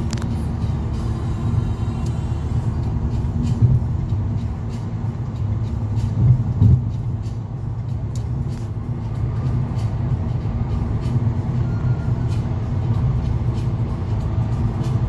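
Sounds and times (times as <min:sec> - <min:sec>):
car road rumble from inside: 0:00.0 - 0:15.0.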